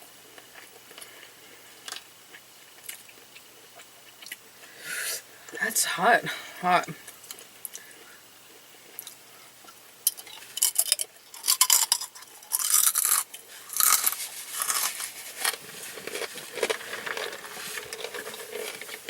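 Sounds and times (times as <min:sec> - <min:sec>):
crunching and chewing food: 0:00.0 - 0:04.8, 0:07.0 - 0:19.0.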